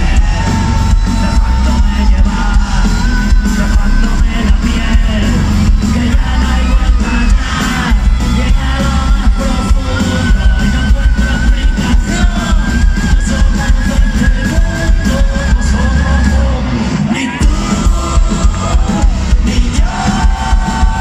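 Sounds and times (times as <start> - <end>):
crowd voices: 0.0 - 21.0
live rock band playing: 0.0 - 21.0
person singing: 0.0 - 21.0.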